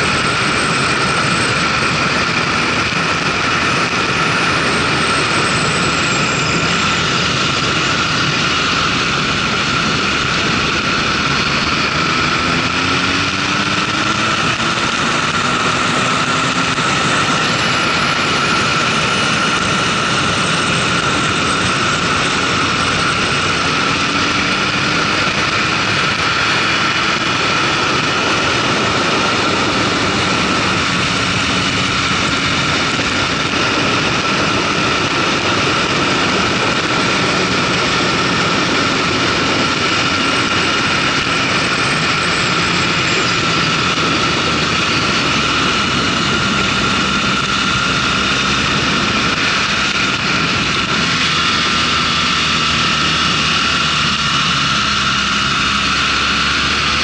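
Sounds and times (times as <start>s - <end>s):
high whine: 0.0s - 57.0s
motorcycle engine cruising: 0.0s - 57.0s
wind rush: 0.0s - 57.0s.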